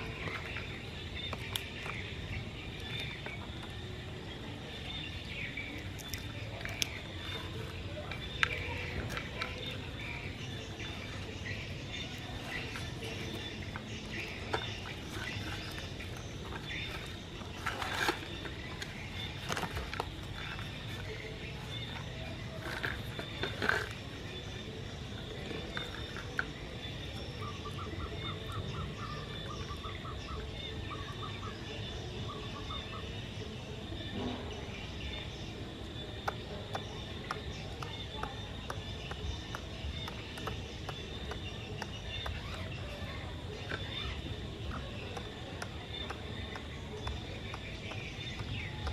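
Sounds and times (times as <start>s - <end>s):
outdoor background noise: 0.0s - 48.9s.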